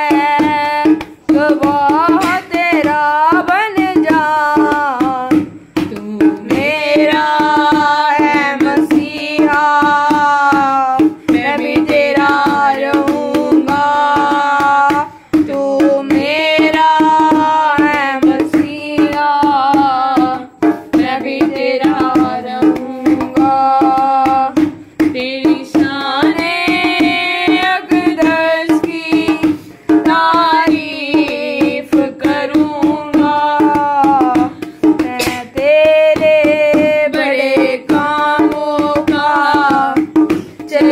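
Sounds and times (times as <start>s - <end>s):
hand drum rhythm: 0.0s - 40.9s
person singing devotional song: 0.0s - 40.9s.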